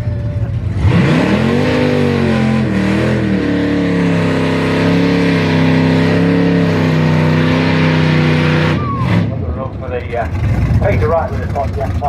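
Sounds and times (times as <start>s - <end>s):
racing car engine accelerating: 0.0s - 11.9s.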